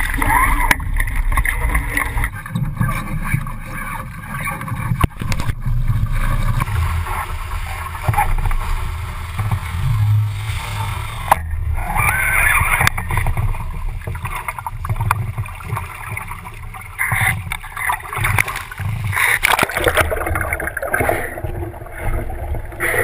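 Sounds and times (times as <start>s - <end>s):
water rushing along hull: 0.0s - 23.0s.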